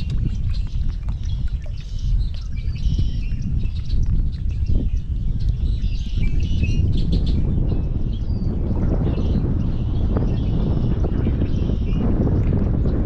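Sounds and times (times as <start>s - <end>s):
birds chirping: 0.0s - 13.0s
wind rumble on microphone: 0.0s - 13.0s.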